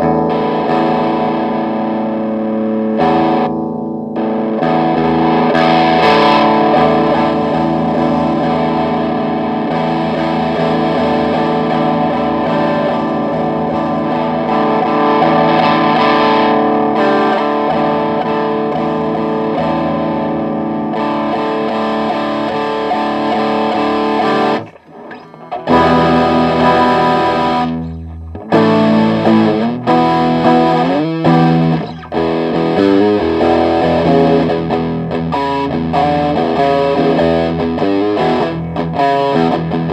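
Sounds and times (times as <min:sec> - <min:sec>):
overdriven electric guitar chords: 0:00.0 - 0:39.9.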